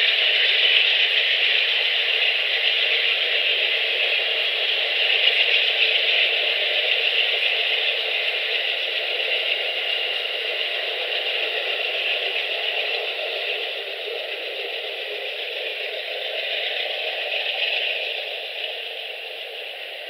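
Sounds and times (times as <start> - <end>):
train wheels rattling on rails: 0.0 - 20.0.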